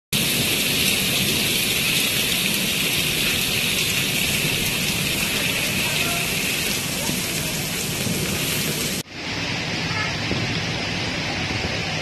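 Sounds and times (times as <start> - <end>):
rain falling: 0.1 - 12.0.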